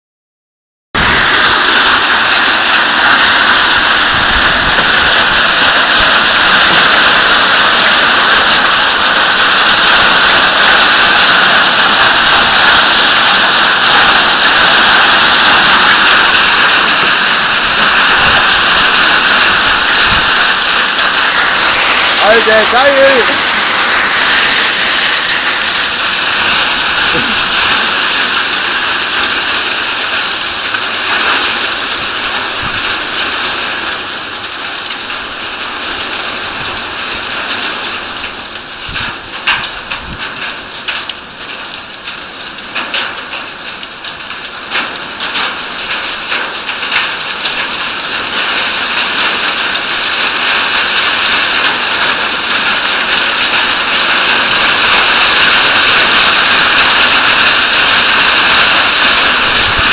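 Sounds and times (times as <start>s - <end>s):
heavy rain and hail: 0.9s - 59.9s
hailstones clicking: 1.0s - 59.9s.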